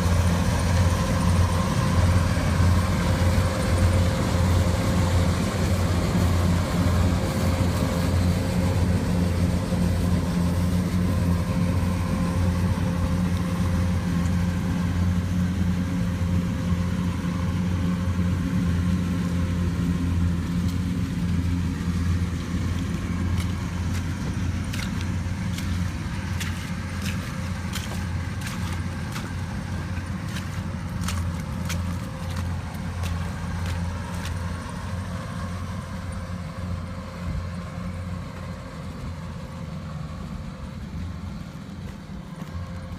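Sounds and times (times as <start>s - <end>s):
combine harvester engine droning: 0.0s - 42.9s.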